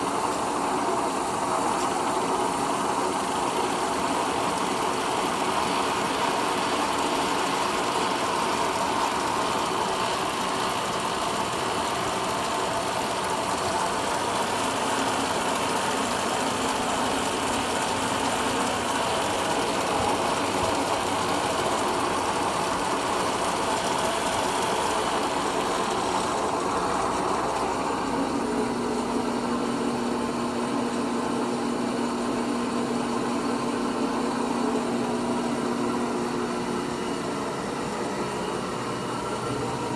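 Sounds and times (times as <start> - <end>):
lathe gear hum and whine: 0.0 - 39.9.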